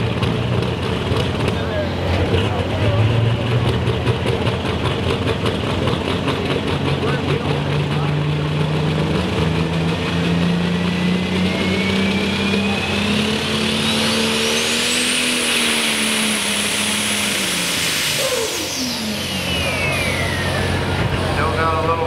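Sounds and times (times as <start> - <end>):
tractor engine at full throttle: 0.0 - 22.0
turbocharger whine: 0.0 - 22.0.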